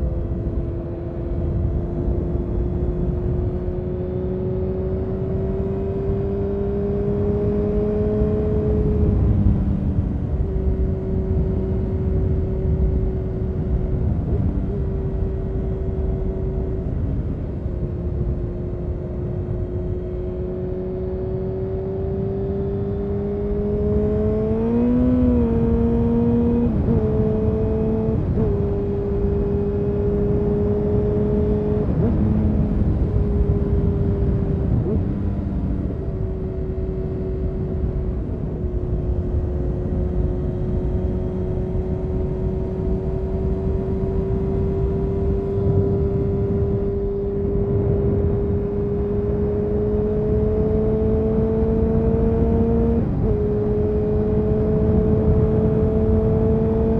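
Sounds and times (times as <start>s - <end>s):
motorcycle engine revving: 0.0s - 17.0s, 18.8s - 56.9s
low rush of wind: 0.0s - 56.9s.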